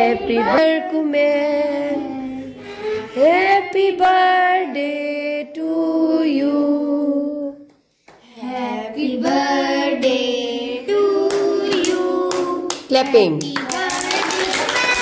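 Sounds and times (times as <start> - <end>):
children and woman singing: 0.0 - 15.0.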